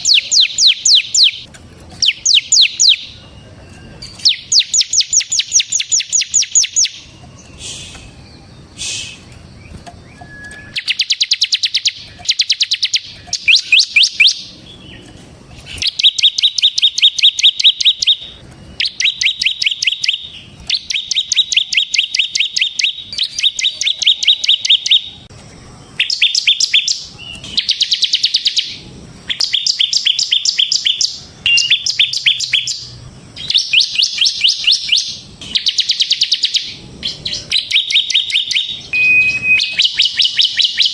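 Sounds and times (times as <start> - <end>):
bird singing fast trills: 0.0 - 40.9.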